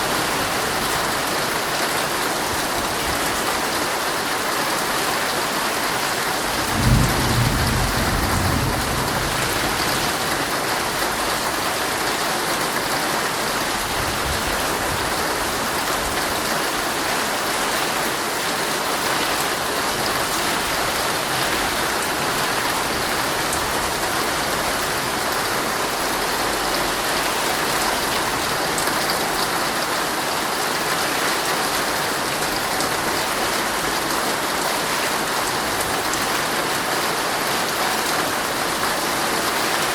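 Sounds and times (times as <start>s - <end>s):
rain drumming on tent fabric: 0.0s - 39.9s.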